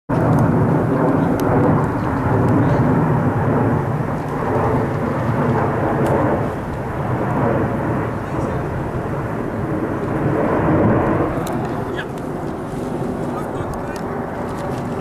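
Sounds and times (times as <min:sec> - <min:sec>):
jet airliner roar overhead: 0:00.1 - 0:15.0.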